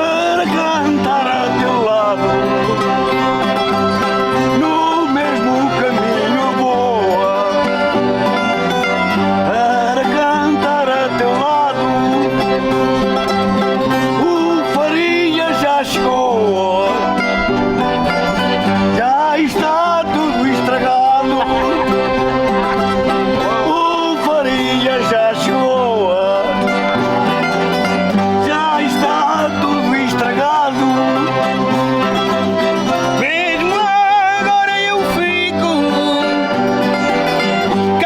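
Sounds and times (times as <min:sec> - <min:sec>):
accordion playing: 0:00.0 - 0:38.0
people singing: 0:00.0 - 0:38.0
plucked string instruments: 0:00.0 - 0:38.0.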